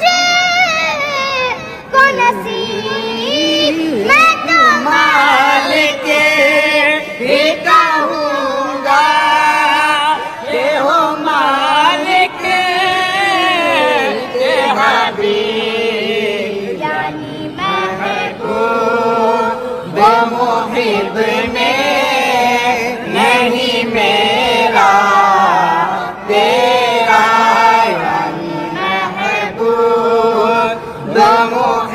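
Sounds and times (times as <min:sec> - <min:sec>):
boy singing: 0:00.0 - 0:31.9.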